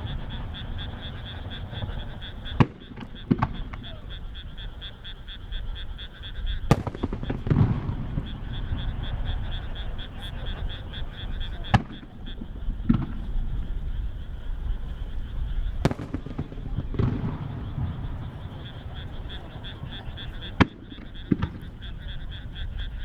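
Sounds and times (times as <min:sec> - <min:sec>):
firework shells bursting: 0:00.0 - 0:04.6, 0:06.6 - 0:22.4
frogs calling in chorus: 0:00.0 - 0:23.0.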